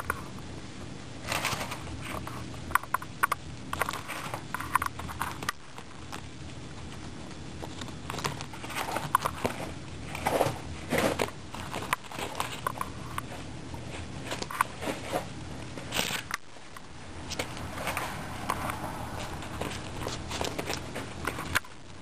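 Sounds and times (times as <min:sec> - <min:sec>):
guinea pigs crunching carrot: 0:00.0 - 0:22.0.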